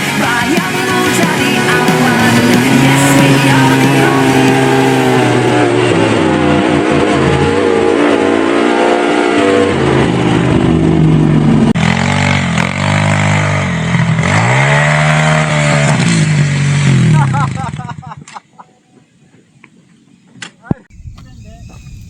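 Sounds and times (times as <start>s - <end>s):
dirt bike engine revving: 0.0s - 18.1s.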